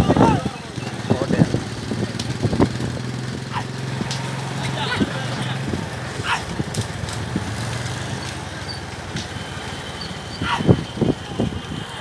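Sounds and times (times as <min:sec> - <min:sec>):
motorcycle engines running: 0:00.0 - 0:12.0
wind and road noise: 0:00.0 - 0:12.0.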